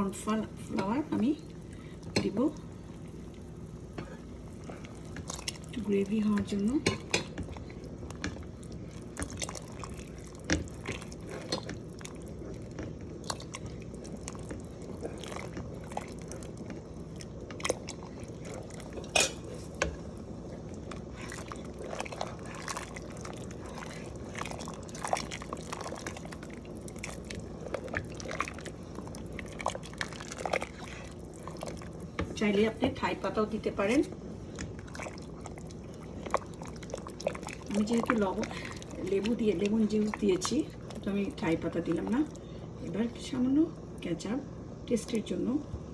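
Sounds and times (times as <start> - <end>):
liquid stirring and dripping: 0.7 - 32.8, 33.8 - 42.4.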